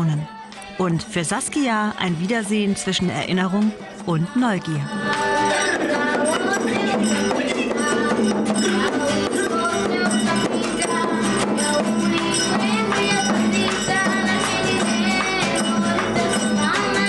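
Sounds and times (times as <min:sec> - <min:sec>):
music with fast percussion: 0:00.0 - 0:17.0.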